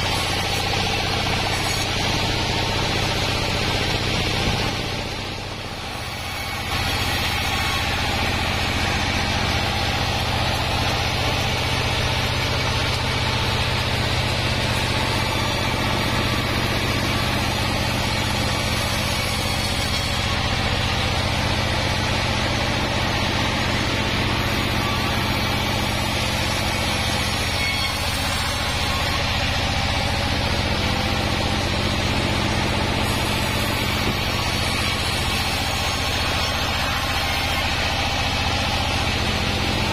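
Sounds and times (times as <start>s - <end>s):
band saw blade whirring: 0.0s - 39.9s
engine hum: 0.0s - 39.9s.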